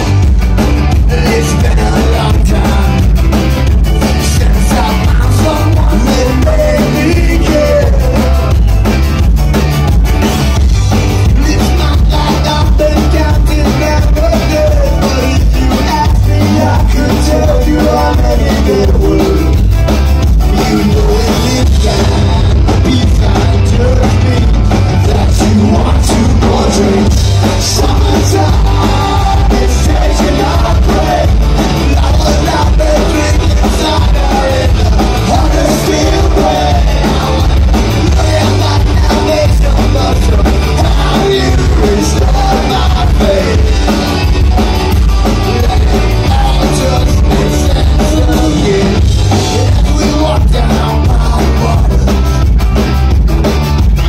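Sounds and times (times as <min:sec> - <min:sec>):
live rock band: 0:00.0 - 0:54.0
person singing: 0:01.0 - 0:03.2, 0:04.0 - 0:08.8, 0:11.2 - 0:19.6, 0:20.4 - 0:52.2.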